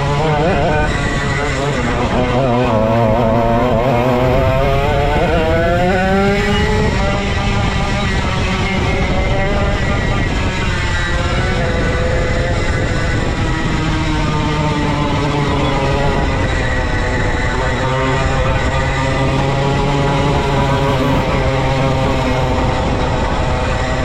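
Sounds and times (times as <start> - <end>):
go-kart engine running hard: 0.0 - 24.0.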